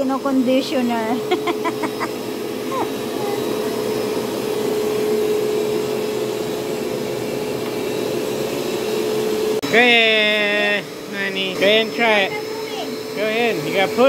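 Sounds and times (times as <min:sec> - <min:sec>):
carpet cleaner suction motor drone: 0:00.0 - 0:14.0.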